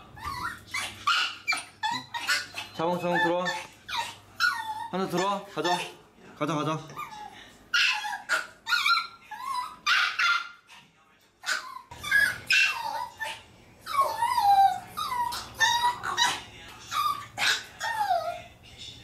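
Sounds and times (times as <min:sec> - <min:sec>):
dogs whining and yipping: 0:00.0 - 0:06.0, 0:06.9 - 0:10.8, 0:11.4 - 0:18.5.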